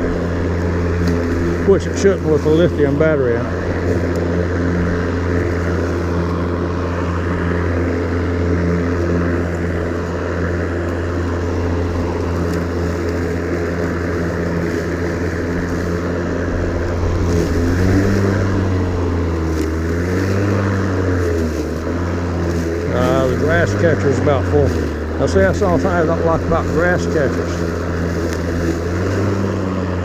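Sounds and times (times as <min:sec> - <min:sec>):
electric lawn mower cutting grass: 0:00.0 - 0:30.0.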